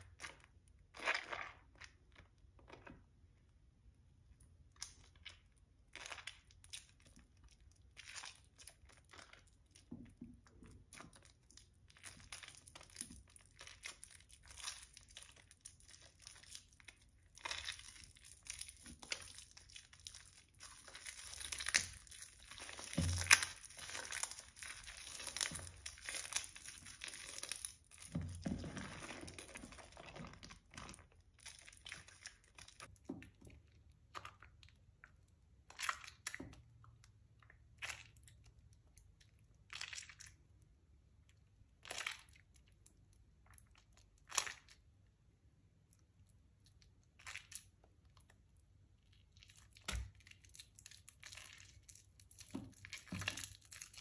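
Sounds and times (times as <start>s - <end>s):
wet soap squishing: 0.0s - 54.0s.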